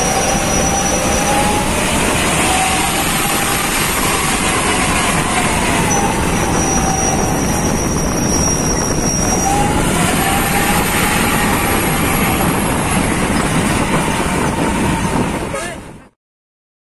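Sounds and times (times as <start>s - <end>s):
faint wavering whines: 0.0s - 15.4s
thin high whine: 0.0s - 15.7s
heavy vehicle running: 0.0s - 16.2s.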